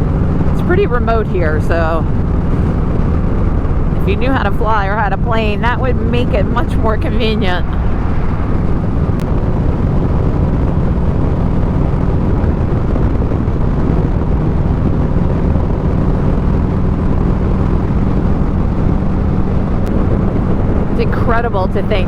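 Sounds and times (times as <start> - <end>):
motorcycle engine running: 0.0 - 22.0
wind rushing: 0.0 - 22.0.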